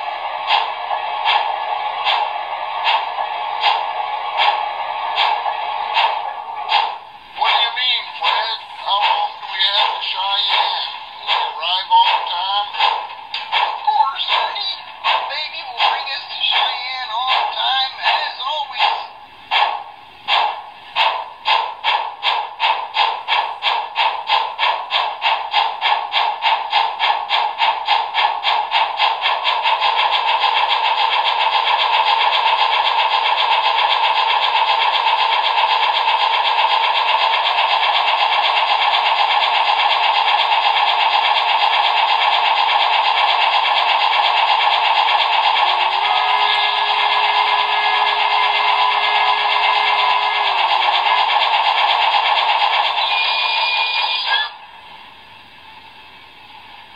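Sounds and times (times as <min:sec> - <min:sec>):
model steam locomotive chuffs: 0:00.0 - 0:56.9.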